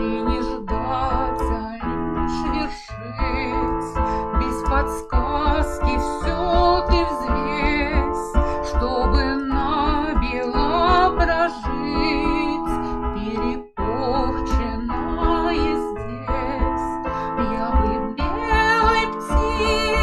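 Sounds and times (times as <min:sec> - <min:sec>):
piano accompaniment: 0:00.0 - 0:20.0
woman singing with vibrato: 0:00.0 - 0:20.0.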